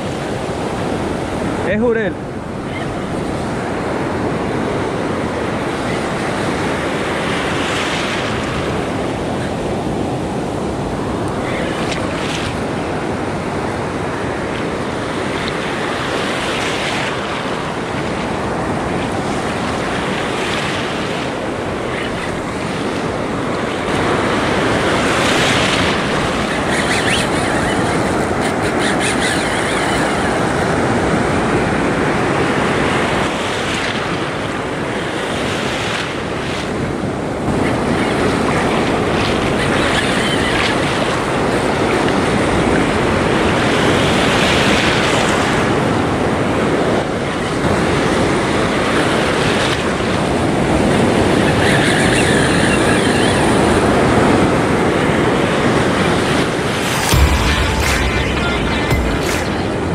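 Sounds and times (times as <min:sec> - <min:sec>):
ocean surf breaking: 0:00.0 - 0:50.5, 0:54.8 - 0:59.9.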